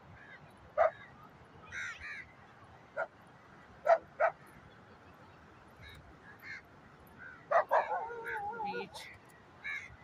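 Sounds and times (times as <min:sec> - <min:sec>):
faint surf: 0:00.0 - 0:10.0.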